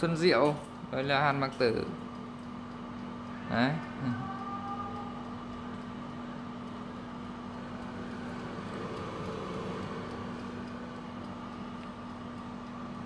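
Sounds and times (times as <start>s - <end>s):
air fryer fan whirring: 0.0s - 13.0s.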